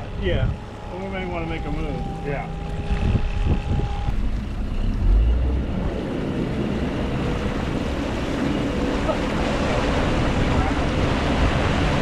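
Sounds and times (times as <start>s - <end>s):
outboard motor running: 0.0s - 12.0s
water rushing along hull: 0.0s - 12.0s
wind buffeting microphone: 0.0s - 12.0s.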